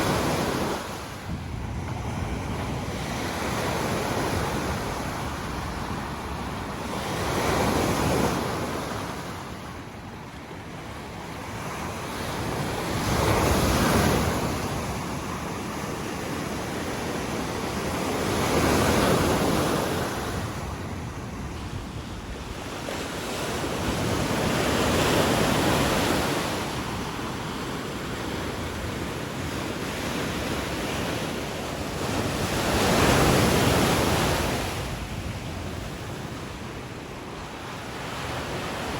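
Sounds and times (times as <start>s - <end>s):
wind on microphone: 0.0s - 10.3s, 11.0s - 38.9s
waves breaking on a beach: 0.0s - 38.9s.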